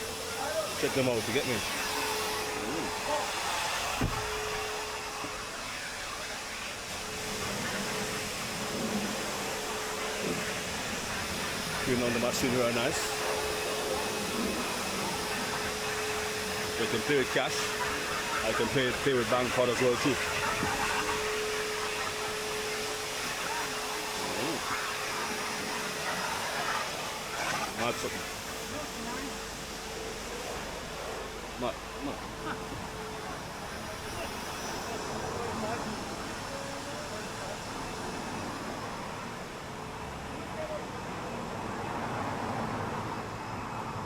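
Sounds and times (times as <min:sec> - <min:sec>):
car wash equipment whooshing hiss: 0:00.0 - 0:44.0
constant hum: 0:00.0 - 0:44.0
mid-pitched machine whine: 0:00.0 - 0:44.0.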